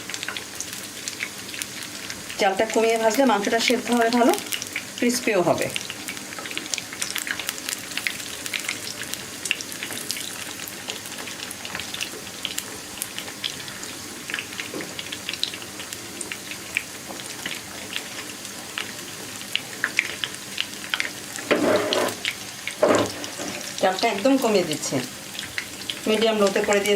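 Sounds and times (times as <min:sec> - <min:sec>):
oil crackles and pops: 0:00.0 - 0:02.4, 0:04.0 - 0:23.8, 0:25.3 - 0:26.9
chicken deep-frying in oil: 0:00.0 - 0:26.9.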